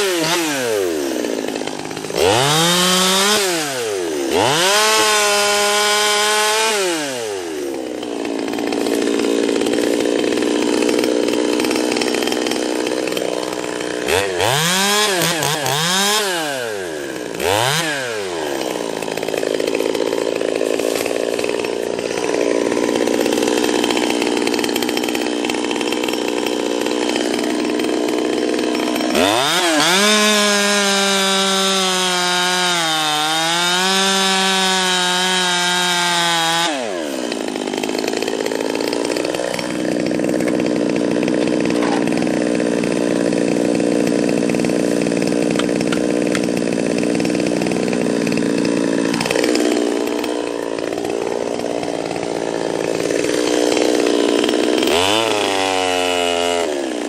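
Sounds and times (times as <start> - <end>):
chainsaw revving and cutting: 0.0 - 57.0.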